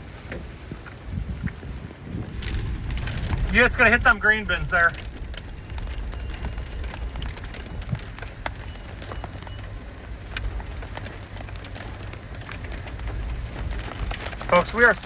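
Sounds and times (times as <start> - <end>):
rain pattering on a vehicle: 0.0 - 15.0
steady low rumble: 0.0 - 15.0.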